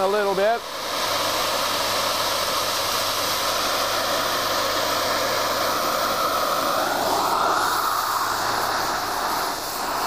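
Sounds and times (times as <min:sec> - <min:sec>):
cutting torch flame hissing: 0:00.0 - 0:10.0.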